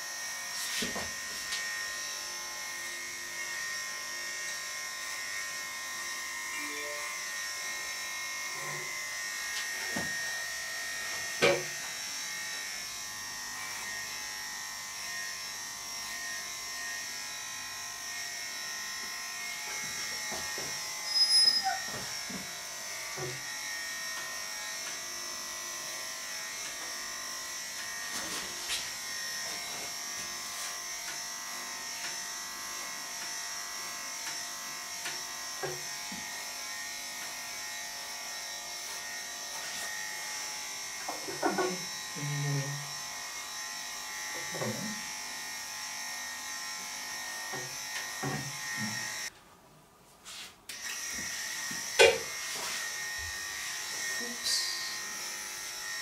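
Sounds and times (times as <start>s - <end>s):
electric clippers humming: 0.0s - 49.3s, 50.7s - 56.0s.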